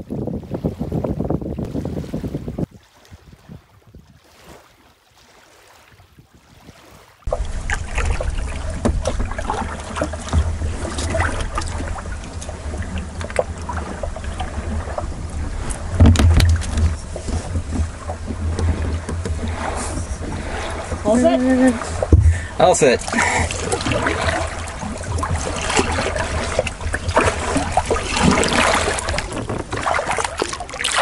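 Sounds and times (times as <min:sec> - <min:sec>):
wind on microphone: 0:00.0 - 0:04.6, 0:05.9 - 0:31.0
water lapping: 0:00.0 - 0:31.0
paddles knocking and splashing: 0:00.5 - 0:31.0.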